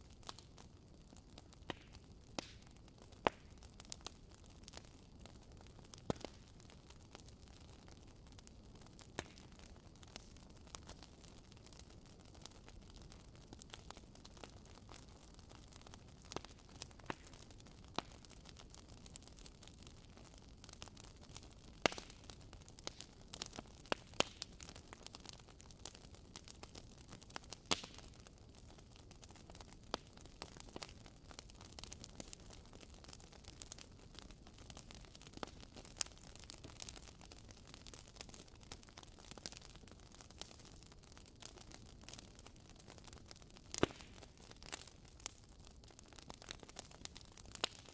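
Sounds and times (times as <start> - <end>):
low fire hiss: 0.0 - 40.7
firewood crackling and popping: 0.0 - 47.9.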